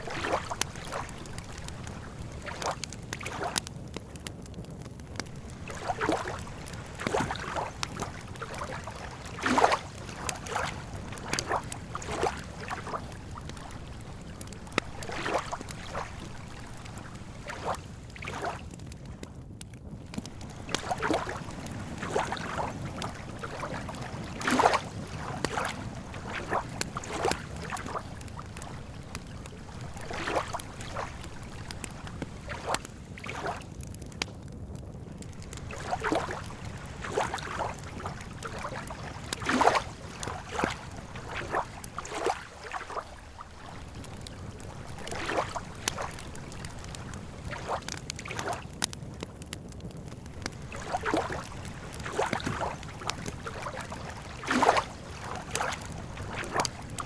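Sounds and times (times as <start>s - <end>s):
small waves lapping: 0.0s - 3.6s, 5.2s - 19.2s, 20.0s - 33.8s, 35.2s - 48.9s, 50.2s - 57.0s.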